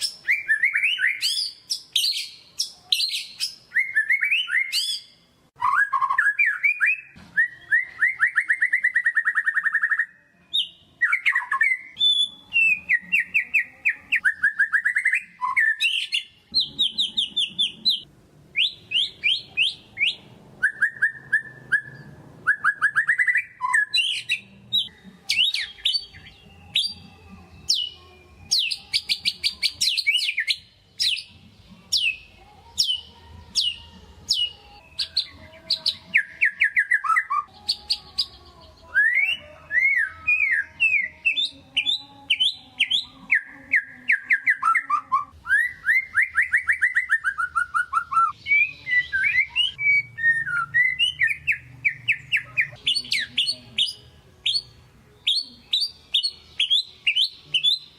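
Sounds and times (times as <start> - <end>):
bird singing: 0.0 - 57.9.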